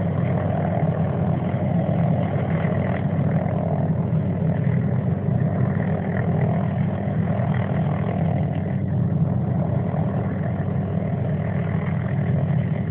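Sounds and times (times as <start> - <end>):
helicopter running: 0.0 - 12.9.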